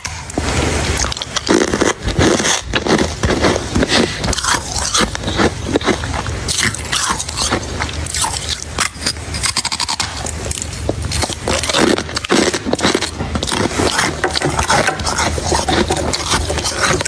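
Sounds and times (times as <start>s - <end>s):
chewing ice crunches: 0.0s - 17.0s.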